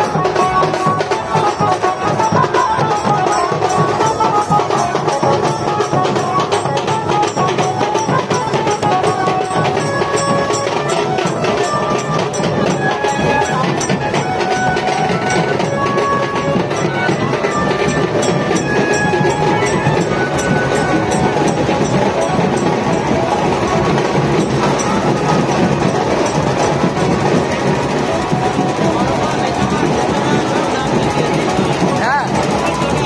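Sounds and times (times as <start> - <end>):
barrel drums beaten with sticks: 0.0 - 33.0
melody of short held notes: 0.0 - 33.0.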